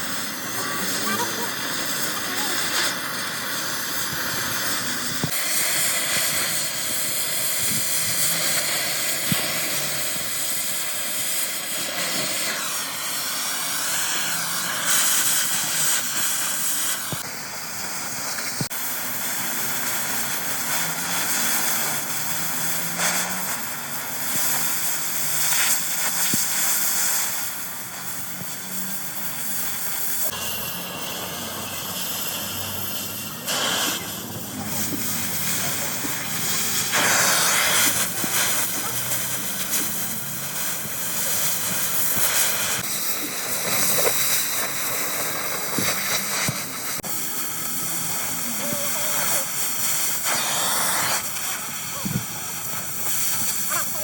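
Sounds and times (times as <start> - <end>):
loud hissing of metalworking: 0.0 - 54.0.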